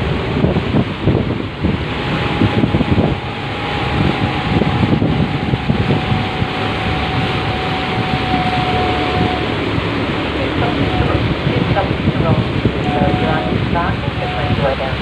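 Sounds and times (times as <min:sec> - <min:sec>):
diesel engines droning: 0:00.0 - 0:15.0
rushing boat wake: 0:00.0 - 0:15.0
wind buffeting microphone: 0:00.0 - 0:15.0
faint steady whine: 0:01.6 - 0:11.9, 0:12.7 - 0:15.0.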